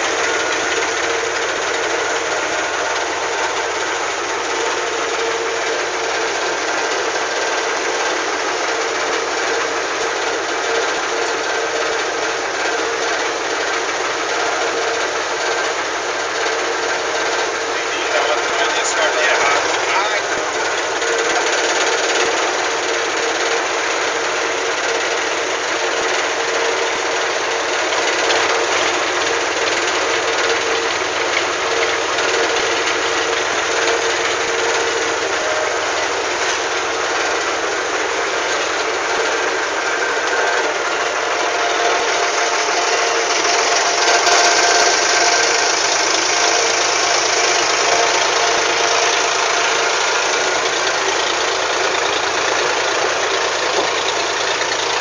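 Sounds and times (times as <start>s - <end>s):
ferry engine running loudly: 0.0s - 55.0s.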